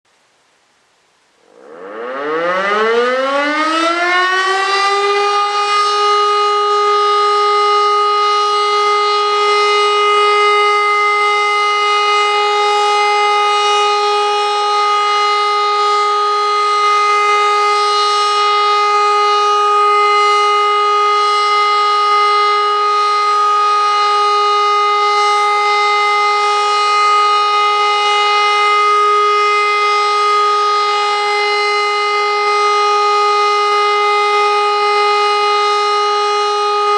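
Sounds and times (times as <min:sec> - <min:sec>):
electric siren steady tone: 0:01.3 - 0:36.9.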